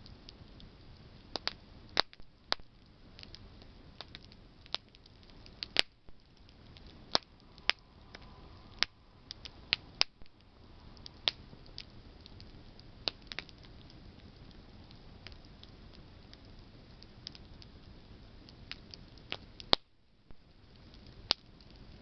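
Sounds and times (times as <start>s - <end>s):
campfire crackling and popping: 0.0s - 22.0s
hiss of flame: 0.0s - 22.0s.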